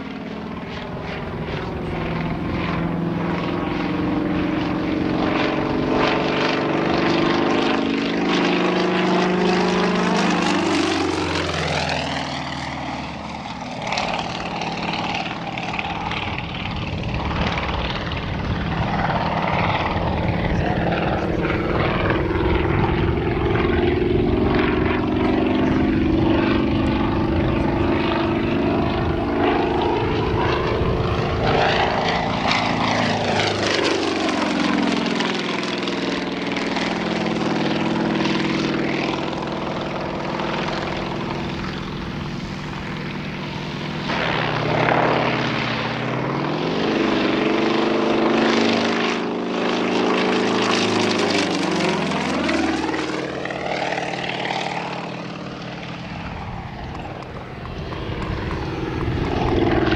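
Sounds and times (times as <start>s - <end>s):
plane radial engine and propeller: 0.0s - 59.9s.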